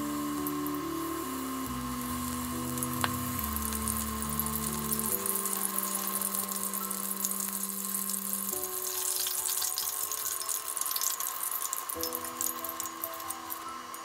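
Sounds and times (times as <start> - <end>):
deep-frying sizzle: 0.0 - 14.0
music with long held notes: 0.0 - 14.0.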